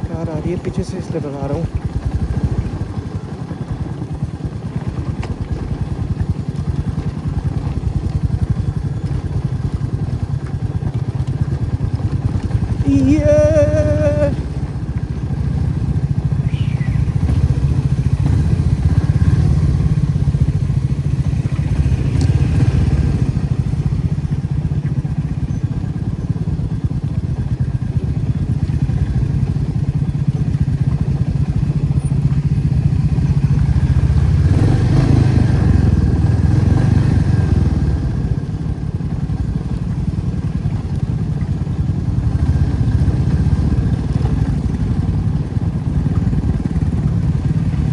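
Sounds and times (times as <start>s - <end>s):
motorcycle engine rumbling: 0.0s - 47.9s.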